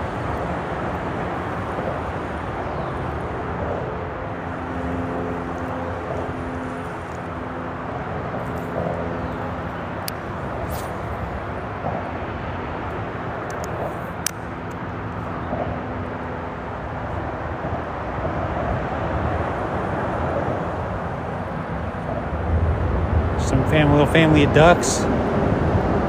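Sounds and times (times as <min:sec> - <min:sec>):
freeway traffic drone: 0:00.0 - 0:26.0.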